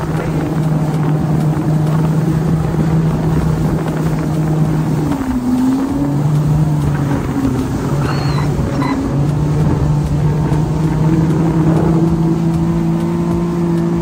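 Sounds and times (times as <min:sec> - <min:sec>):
jet ski engine running: 0:00.0 - 0:14.0
rush of wind and water: 0:00.0 - 0:14.0.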